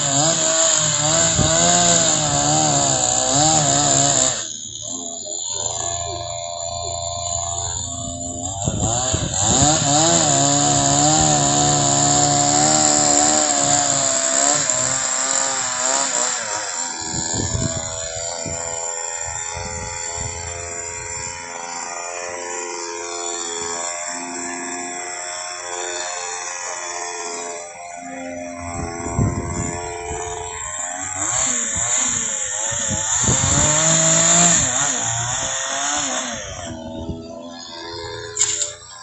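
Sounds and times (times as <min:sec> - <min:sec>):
chainsaw running: 0:00.0 - 0:39.0.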